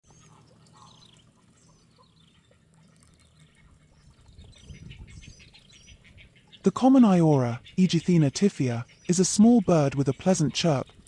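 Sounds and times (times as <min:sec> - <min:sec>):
birds chirping and twittering: 0:00.0 - 0:11.0
low background hum: 0:00.1 - 0:11.0.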